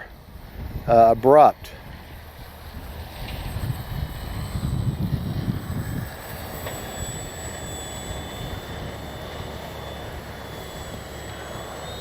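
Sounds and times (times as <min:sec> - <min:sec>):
electric motor and propeller whine: 0:00.0 - 0:12.0
rush of wind: 0:00.0 - 0:12.0
wind buffeting microphone: 0:00.1 - 0:12.0.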